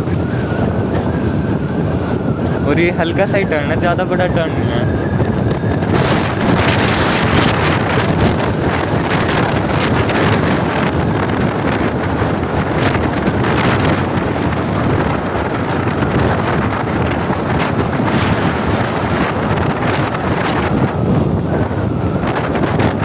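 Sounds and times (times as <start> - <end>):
road noise: 0.0 - 23.0
wind rush on microphone: 0.0 - 23.0.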